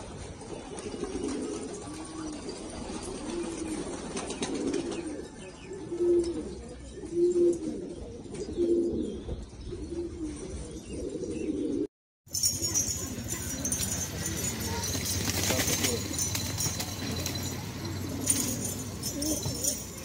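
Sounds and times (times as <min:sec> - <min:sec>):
pigeon cooing: 0:00.4 - 0:20.0.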